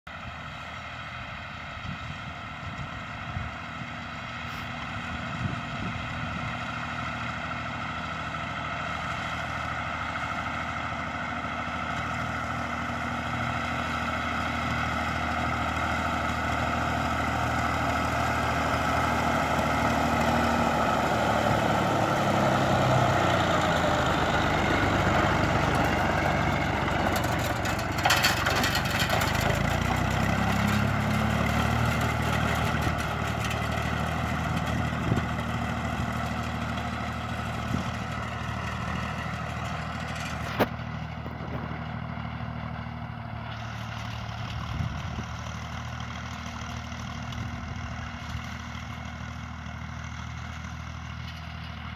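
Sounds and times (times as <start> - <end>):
tractor engine running: 0.1 - 51.9.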